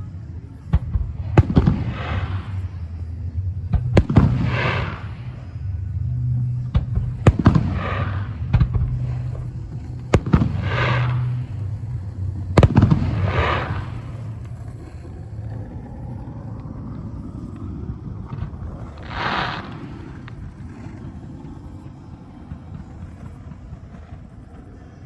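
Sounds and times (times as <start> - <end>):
firework crackling shower: 0.0 - 25.0.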